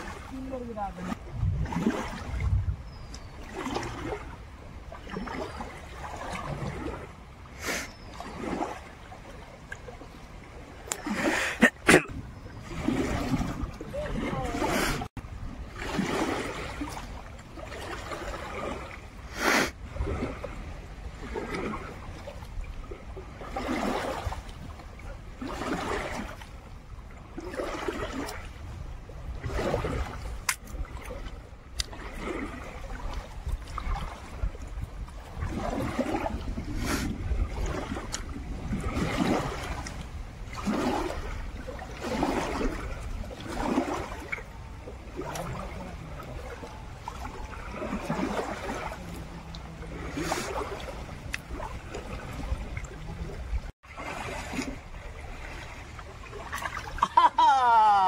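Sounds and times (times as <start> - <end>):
river water splashing on rocks: 0.0 - 20.4, 21.1 - 26.6, 27.2 - 58.0.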